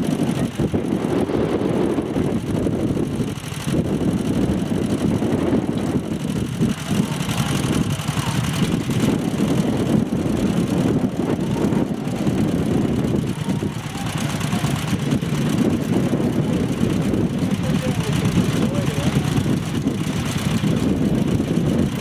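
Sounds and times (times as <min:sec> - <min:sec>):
walking tractor engine running: 0:00.0 - 0:22.0.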